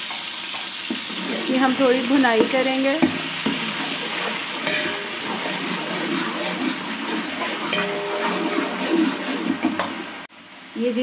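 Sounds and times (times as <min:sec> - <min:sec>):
onions sizzling in oil: 0:00.0 - 0:11.0
metal ladle scraping pot: 0:00.5 - 0:10.3.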